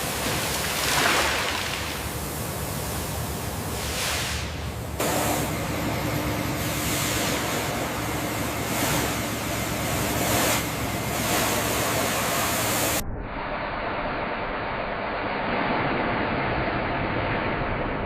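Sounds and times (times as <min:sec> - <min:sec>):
low steady hum: 0:00.0 - 0:18.0
steady rushing noise: 0:01.8 - 0:18.0.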